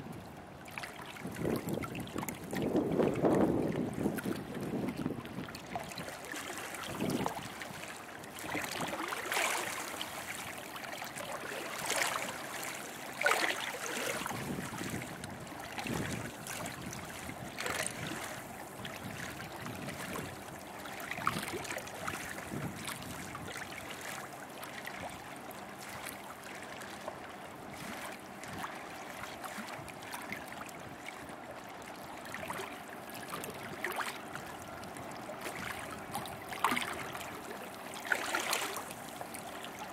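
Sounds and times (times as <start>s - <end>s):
water lapping against shore: 0.0s - 39.9s.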